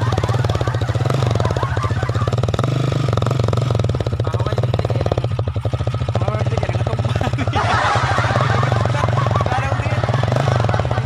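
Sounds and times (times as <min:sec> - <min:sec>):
small motorcycle engine idling: 0:00.0 - 0:11.0.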